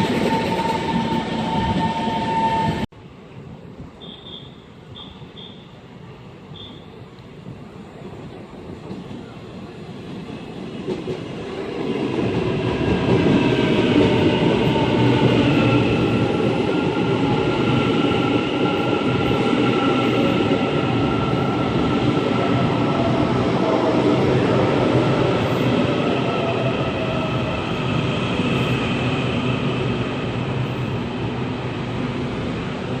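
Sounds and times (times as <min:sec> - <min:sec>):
train rumbling on tracks: 0:00.0 - 0:33.0.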